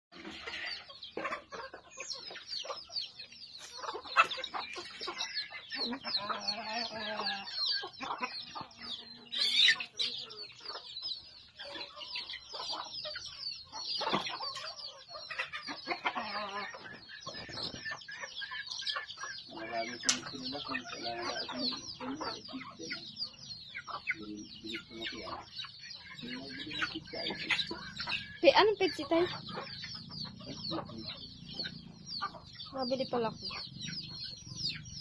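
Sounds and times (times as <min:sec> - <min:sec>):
chickens clucking: 0:00.1 - 0:35.0.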